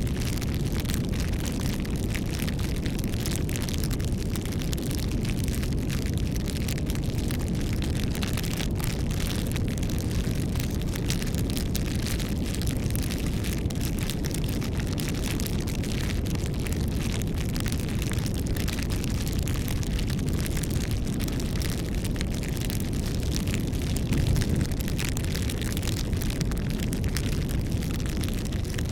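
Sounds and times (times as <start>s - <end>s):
campfire flames rushing: 0.0s - 28.9s
wood crackling and popping: 0.0s - 28.9s.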